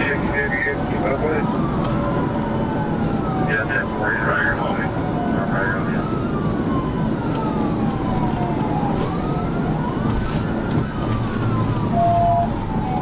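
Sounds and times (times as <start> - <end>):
car engine and road noise: 0.0 - 13.0
police siren wailing: 0.0 - 13.0.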